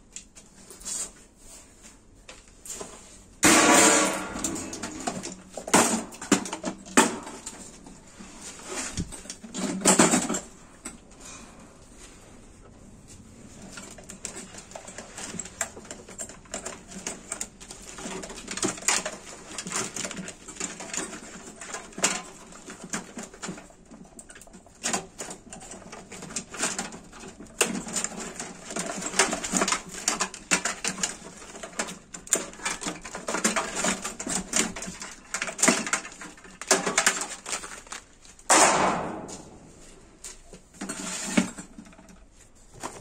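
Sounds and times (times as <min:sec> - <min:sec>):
cables and connectors rattling in case: 0:03.8 - 0:11.0, 0:13.1 - 0:38.5, 0:40.2 - 0:43.0.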